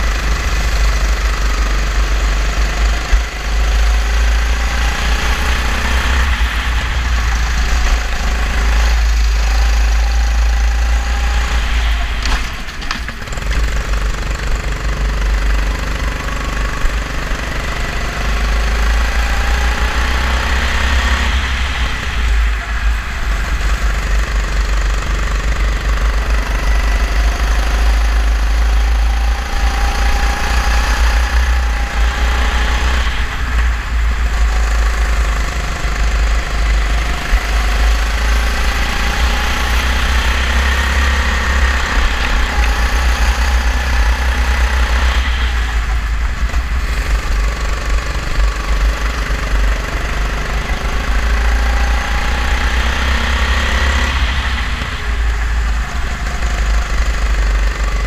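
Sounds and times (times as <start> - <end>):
go-kart engine racing: 0.0 - 58.0.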